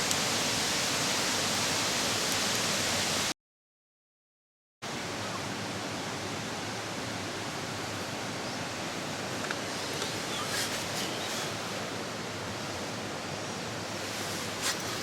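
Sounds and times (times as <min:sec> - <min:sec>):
rushing outdoor noise: 0:00.0 - 0:03.3, 0:04.8 - 0:15.0.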